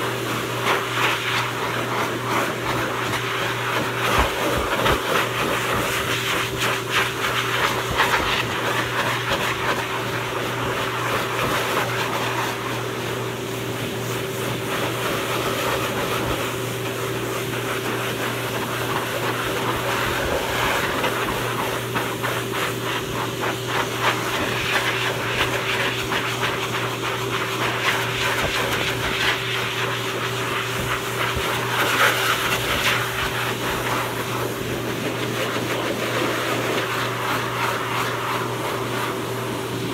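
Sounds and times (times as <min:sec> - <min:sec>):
blower dryer air rushing: 0:00.0 - 0:39.9.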